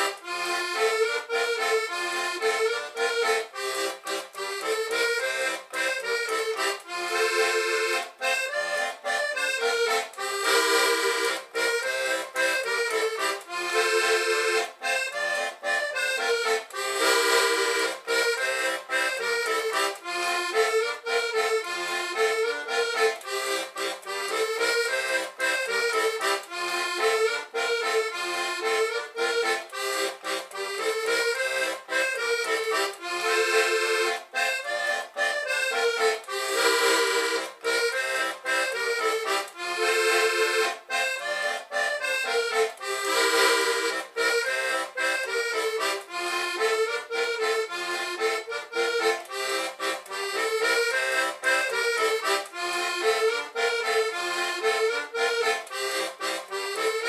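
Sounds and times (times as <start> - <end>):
button accordion folk tune: 0.0 - 57.0.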